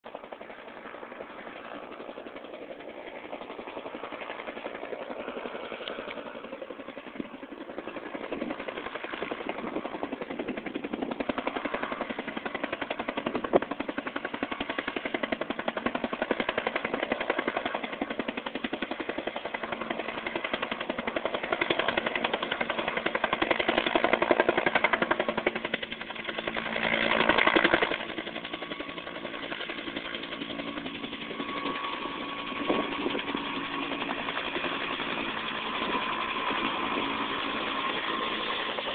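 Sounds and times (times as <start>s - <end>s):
helicopter rotor chop: 0.1s - 38.9s.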